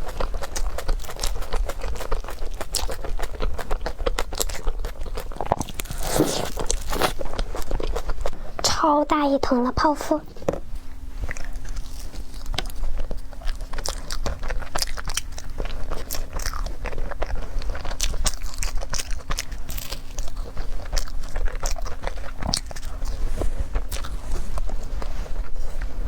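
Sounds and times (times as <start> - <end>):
crunchy chewing: 0.0 - 9.3, 10.2 - 26.0
faint steady hum: 0.0 - 26.0.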